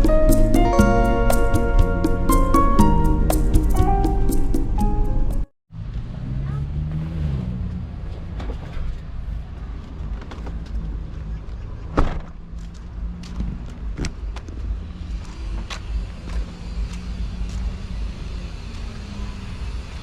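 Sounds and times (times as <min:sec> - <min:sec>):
vehicle engine rumbling: 0:03.1 - 0:20.0.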